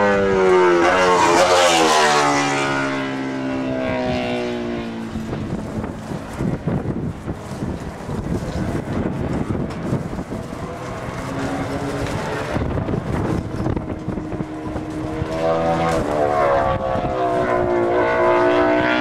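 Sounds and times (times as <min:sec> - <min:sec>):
motorbike engine revving: 0:00.0 - 0:19.0
wind noise on microphone: 0:00.0 - 0:19.0.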